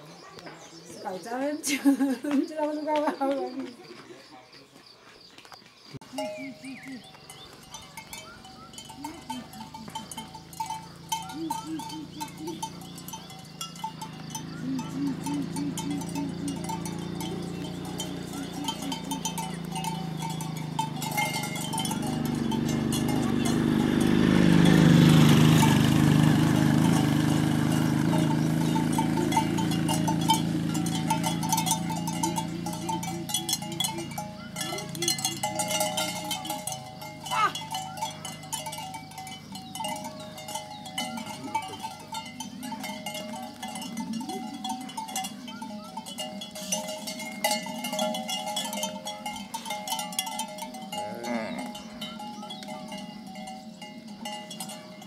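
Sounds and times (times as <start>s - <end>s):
cattle bells clanking: 6.0s - 55.0s.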